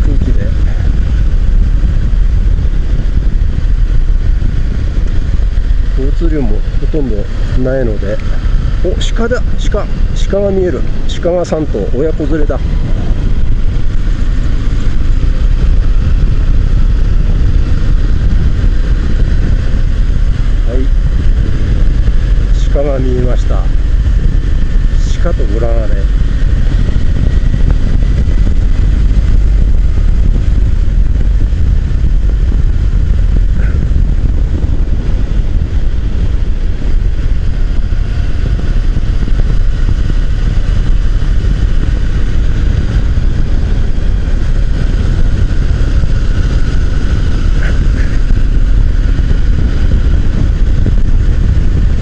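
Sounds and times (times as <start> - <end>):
motorcycle engine cruising: 0.0 - 52.0
road and wind noise: 0.0 - 52.0.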